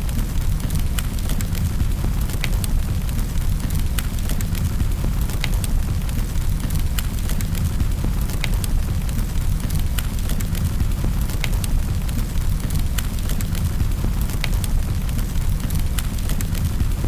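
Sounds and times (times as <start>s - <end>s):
fire crackles and pops: 0.0s - 17.0s
fire rumbling: 0.0s - 17.0s.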